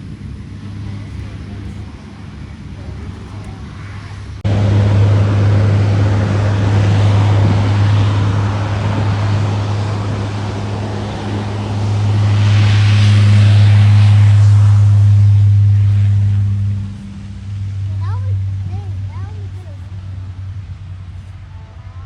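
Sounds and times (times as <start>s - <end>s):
aircraft engines droning: 0.0s - 22.0s.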